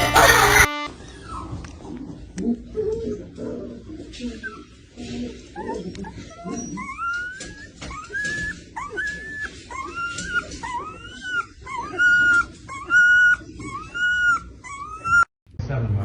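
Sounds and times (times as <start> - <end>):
dog whining: 0.0 - 15.3.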